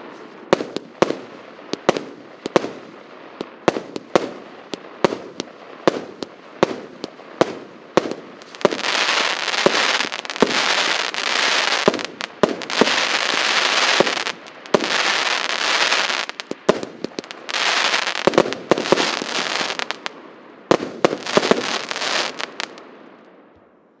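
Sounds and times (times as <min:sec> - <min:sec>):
firework crackling: 0:00.0 - 0:22.8
firework reports: 0:00.0 - 0:22.8.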